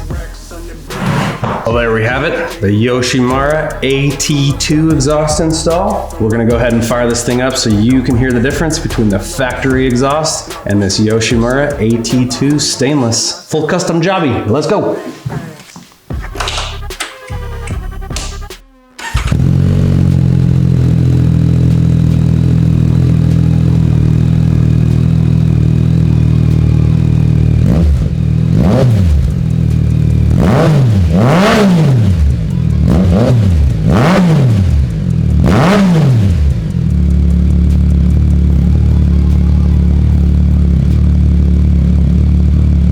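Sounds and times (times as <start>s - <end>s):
engine throttle revs: 0.8s - 12.8s, 17.4s - 42.9s
motorcycle engine idling: 1.7s - 12.8s, 19.0s - 42.9s.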